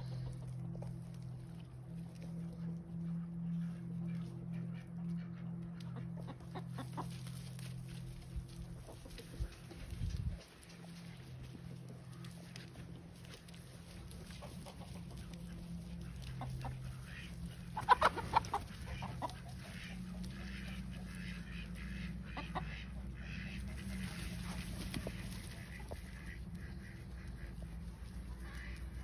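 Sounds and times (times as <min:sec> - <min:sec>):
chickens clucking: 0:00.0 - 0:29.0
low steady rumble: 0:00.0 - 0:29.0.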